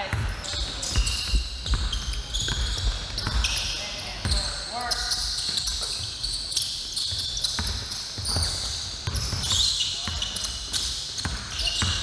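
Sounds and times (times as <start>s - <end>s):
basketball bouncing on gym floor: 0.0s - 12.0s.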